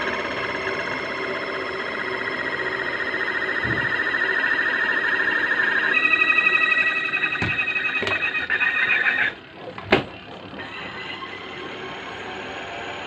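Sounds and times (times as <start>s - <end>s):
spin-dryer running steadily: 0.0s - 13.0s
spin-dryer squealing: 0.0s - 13.0s.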